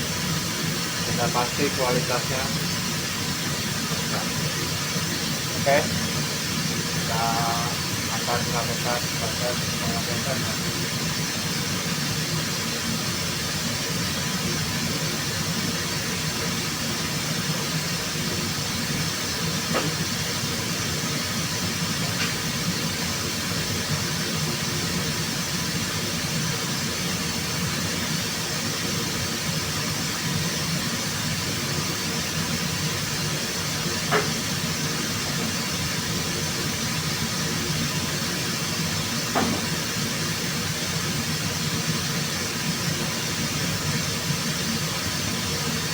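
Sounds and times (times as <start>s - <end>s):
machinery humming and hissing: 0.0s - 45.9s.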